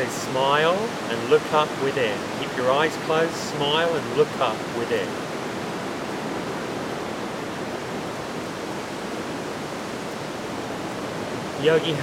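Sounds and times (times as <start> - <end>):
steady rushing outdoor ambience: 0.0 - 12.0.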